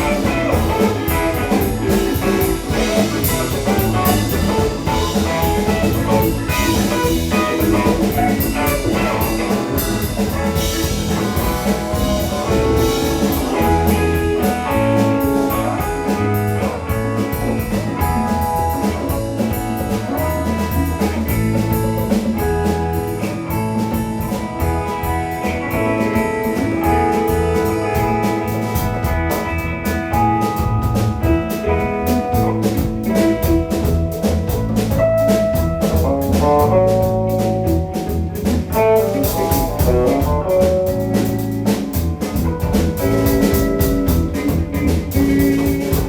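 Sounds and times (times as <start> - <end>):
bass guitar: 0.0 - 46.0
drum kit: 0.0 - 46.0
electric guitar: 0.0 - 46.0.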